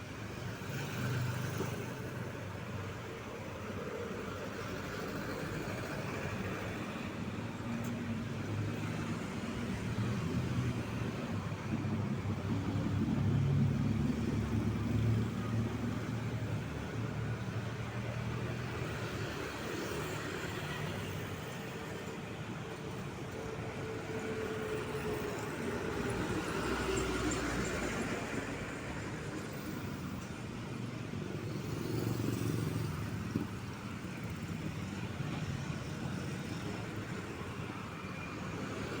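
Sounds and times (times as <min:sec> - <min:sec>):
road traffic: 0:00.0 - 0:39.0.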